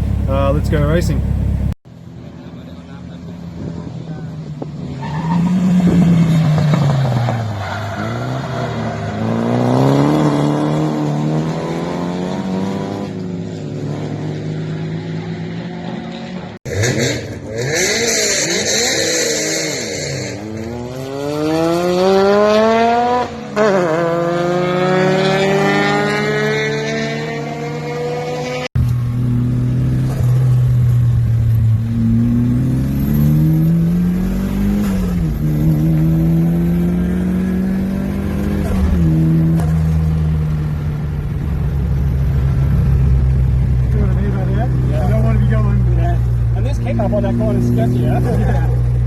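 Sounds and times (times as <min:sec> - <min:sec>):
turbocharged engine accelerating: 0:00.0 - 0:01.8, 0:09.1 - 0:49.0.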